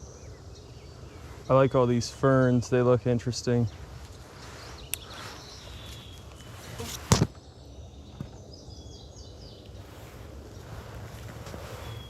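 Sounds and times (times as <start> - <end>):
forest ambience: 0.0 - 12.0
songbird singing: 0.0 - 12.0.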